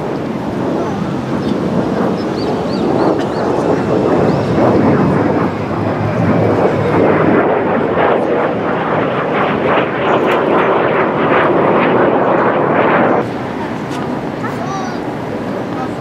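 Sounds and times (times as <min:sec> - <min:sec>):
jet flying overhead: 0:00.0 - 0:16.0.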